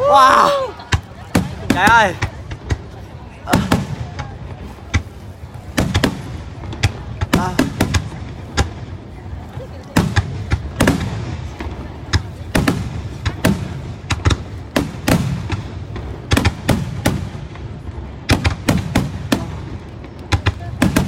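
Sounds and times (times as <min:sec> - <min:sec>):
fireworks booming with echo: 0:00.0 - 0:21.0.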